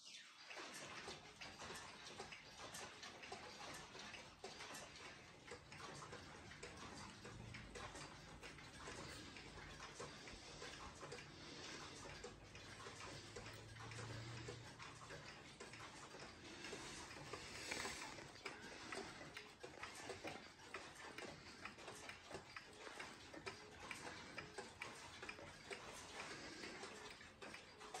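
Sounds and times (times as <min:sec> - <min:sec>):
clock ticking faintly: 0:00.0 - 0:28.0.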